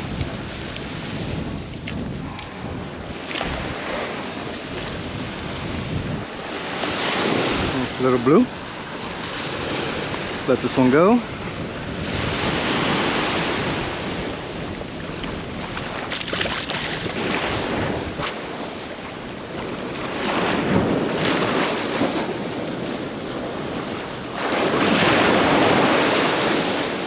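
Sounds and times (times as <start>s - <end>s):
waves breaking on sandy beach: 0.0s - 27.0s
wind buffeting microphone: 0.0s - 27.0s.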